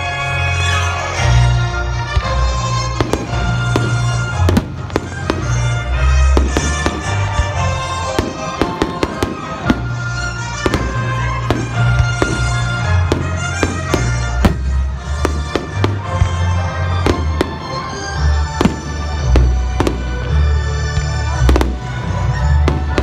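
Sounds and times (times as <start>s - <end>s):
fireworks bangs: 2.1s - 23.0s.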